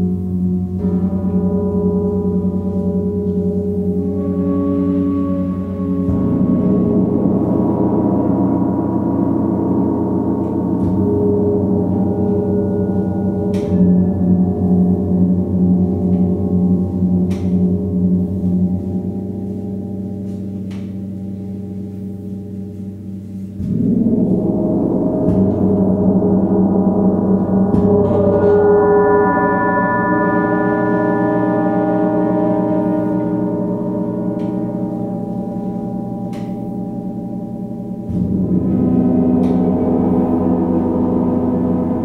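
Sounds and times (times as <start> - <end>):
large gongs ringing: 0.0 - 42.0.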